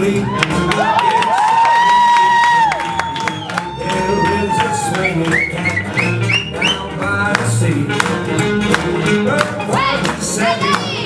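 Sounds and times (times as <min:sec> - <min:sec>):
swing dance music: 0:00.0 - 0:11.0.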